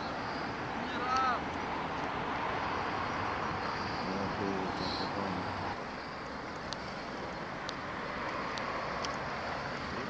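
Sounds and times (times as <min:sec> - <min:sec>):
distant city traffic hum: 0:00.0 - 0:10.0.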